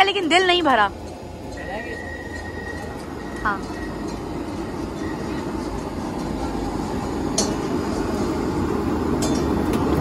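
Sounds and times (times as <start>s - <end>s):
gas burners roaring: 0.0s - 10.0s.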